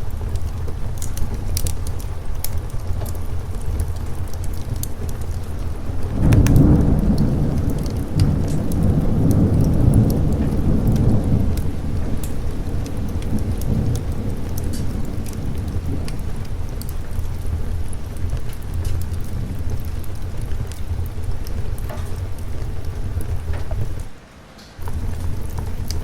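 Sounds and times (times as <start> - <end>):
rolling thunder: 0.0 - 24.2, 24.8 - 26.0
heavy rain: 0.0 - 26.0.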